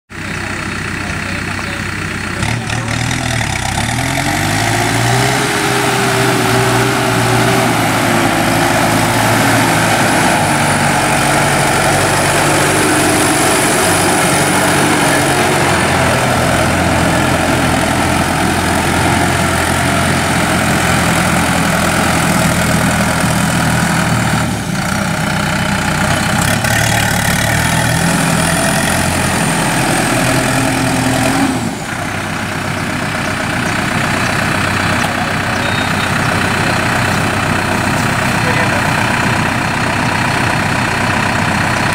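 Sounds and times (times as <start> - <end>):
tractor diesel engine running: 0.1 - 41.9.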